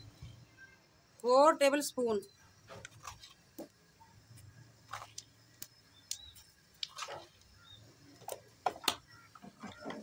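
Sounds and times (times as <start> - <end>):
seeds crackling in hot oil: 1.1 - 9.8.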